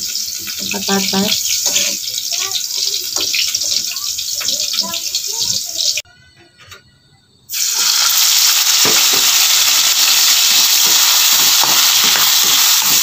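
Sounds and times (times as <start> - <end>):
peppers sizzling in hot oil: 0.0 - 6.0, 7.5 - 13.0.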